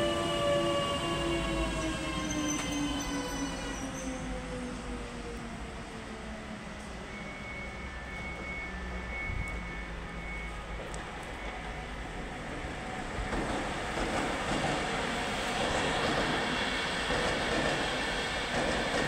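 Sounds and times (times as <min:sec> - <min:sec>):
electric train rumbling on track: 0:00.0 - 0:19.0.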